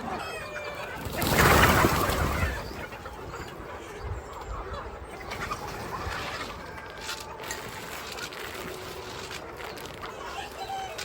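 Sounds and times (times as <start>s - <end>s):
birds chirping: 0.0s - 11.0s
chickens clucking: 0.0s - 11.0s.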